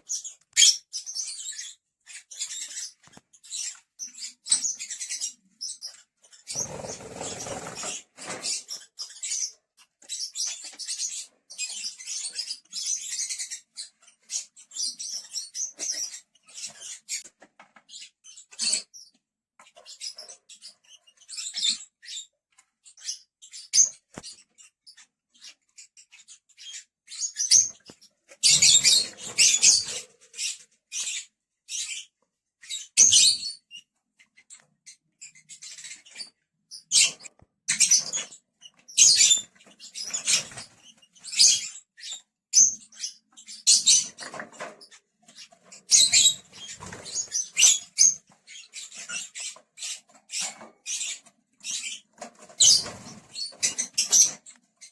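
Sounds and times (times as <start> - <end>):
lovebirds chirping: 0.0 - 54.9.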